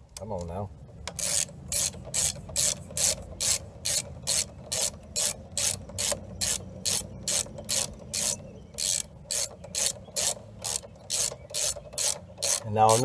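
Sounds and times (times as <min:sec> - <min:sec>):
ratchet wrench clicking: 0:01.1 - 0:13.0.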